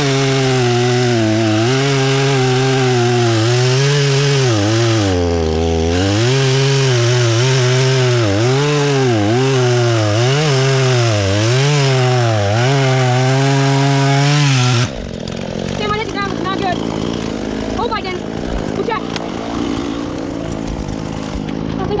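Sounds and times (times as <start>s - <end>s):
chainsaw cutting through log: 0.0s - 22.0s.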